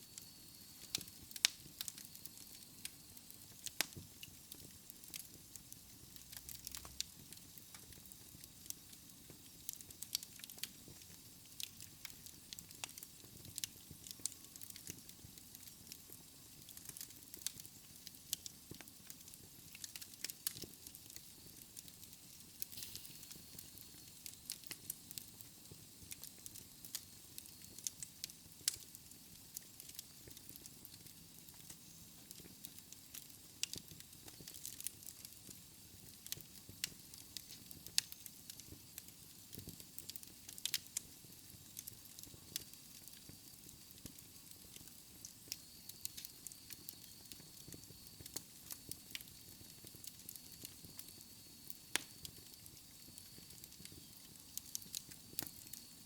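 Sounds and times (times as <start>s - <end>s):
faint hiss of flames: 0.0s - 56.0s
wood fire crackling and popping: 0.0s - 56.0s.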